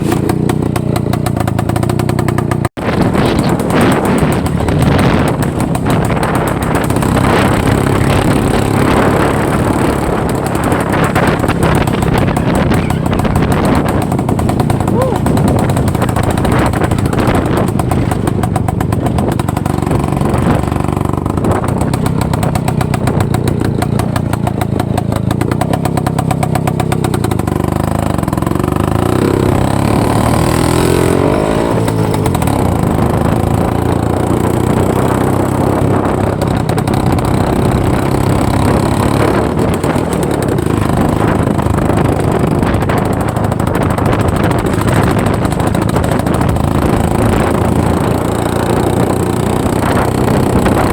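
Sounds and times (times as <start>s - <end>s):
two-stroke motorcycle engine: 0.0s - 50.9s.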